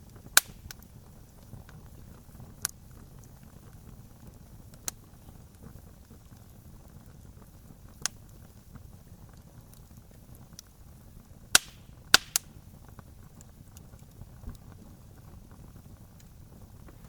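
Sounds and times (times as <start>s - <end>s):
campfire burning rush: 0.0s - 17.0s
campfire pops: 0.0s - 17.0s.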